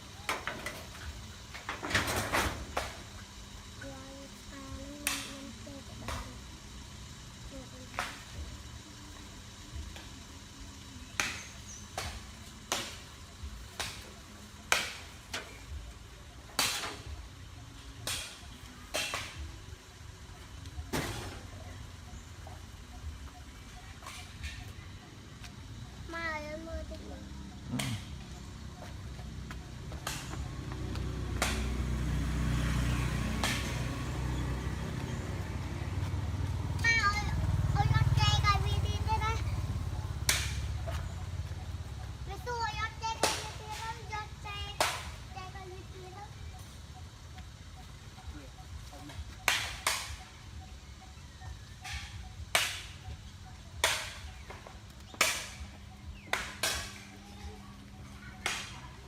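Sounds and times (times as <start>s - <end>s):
vehicle engine running: 2.6s - 59.0s.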